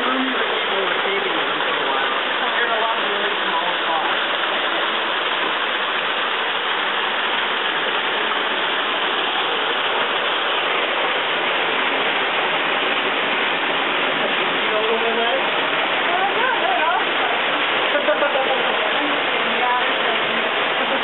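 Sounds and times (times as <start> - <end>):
waterfall pouring and splashing: 0.0 - 21.0.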